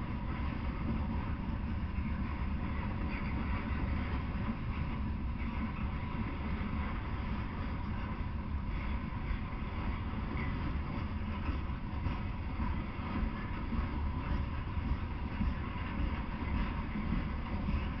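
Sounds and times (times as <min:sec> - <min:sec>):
freight train wheels rumbling on track: 0:00.0 - 0:18.0.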